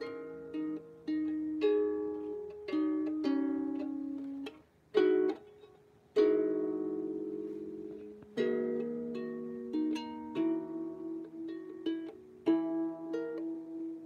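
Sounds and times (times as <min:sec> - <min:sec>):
out-of-tune harp plucked: 0:00.0 - 0:14.0.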